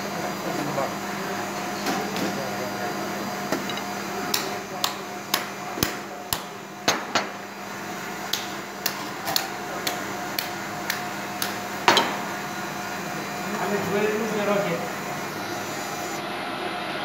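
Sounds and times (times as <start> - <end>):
steady hum: 0.0 - 16.5.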